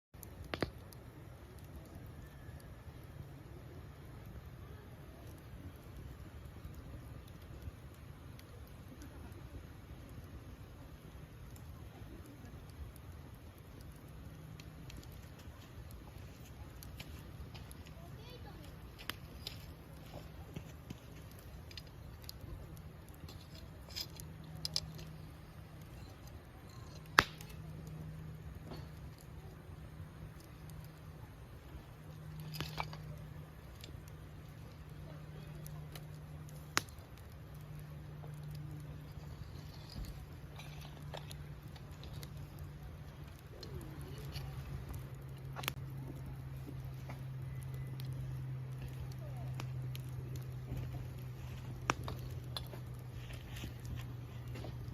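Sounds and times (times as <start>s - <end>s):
bonfire crackling: 0.1s - 54.9s
fire pops: 0.2s - 54.9s.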